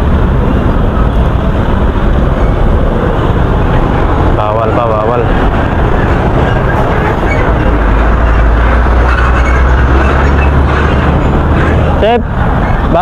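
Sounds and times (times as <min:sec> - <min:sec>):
road traffic: 0:00.0 - 0:13.0
truck engine rumbling: 0:00.0 - 0:13.0.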